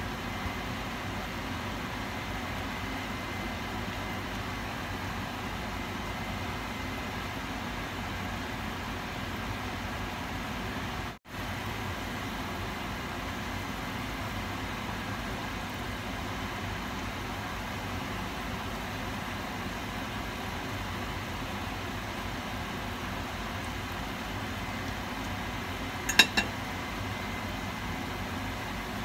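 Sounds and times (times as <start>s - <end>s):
hot oil sizzling: 0.1s - 29.0s.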